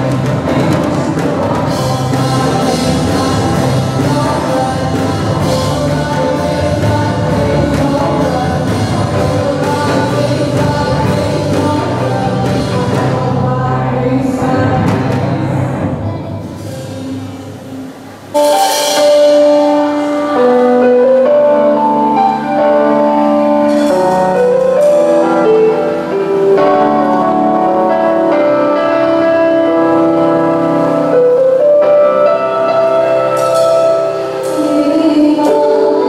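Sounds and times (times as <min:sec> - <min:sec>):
live band playing slow song: 0:00.0 - 0:36.0
sustained keyboard chords: 0:00.0 - 0:36.0.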